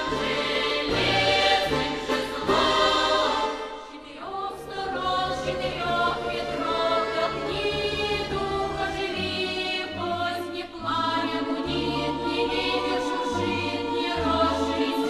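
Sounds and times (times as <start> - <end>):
choir singing long notes: 0.0 - 15.0.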